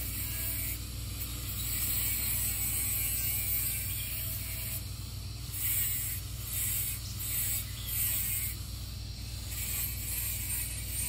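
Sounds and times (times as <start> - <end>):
angle grinder cutting steel: 0.0 - 11.0.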